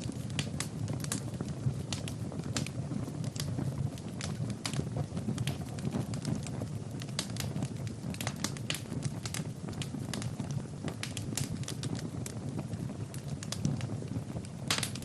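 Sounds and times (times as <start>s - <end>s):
low rumble of fire flames: 0.0s - 15.0s
wood fire crackling and popping: 0.0s - 15.0s.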